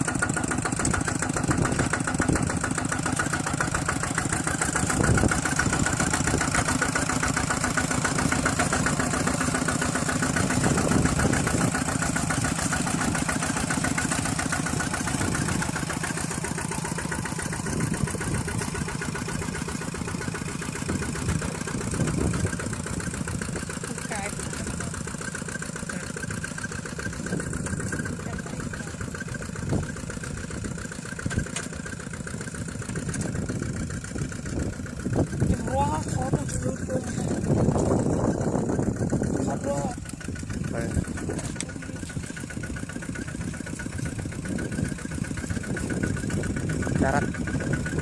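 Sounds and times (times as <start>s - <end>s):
engine running steadily: 0.0s - 48.0s.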